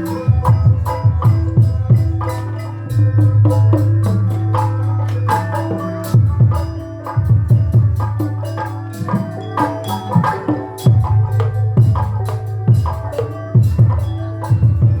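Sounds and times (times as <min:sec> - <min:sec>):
hand drum strokes: 0:00.0 - 0:15.0
ringing tuned metal percussion: 0:00.0 - 0:15.0.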